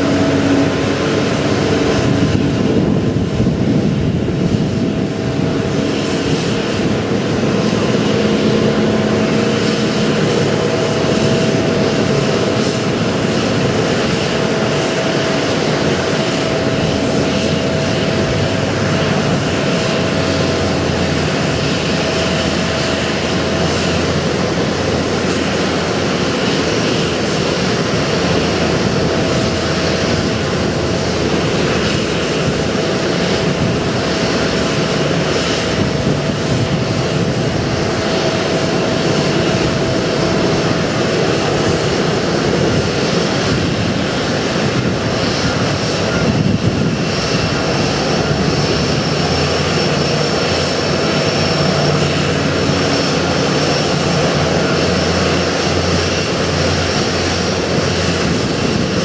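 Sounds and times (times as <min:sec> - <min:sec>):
jet engine rush and whine: 0:00.0 - 0:59.0.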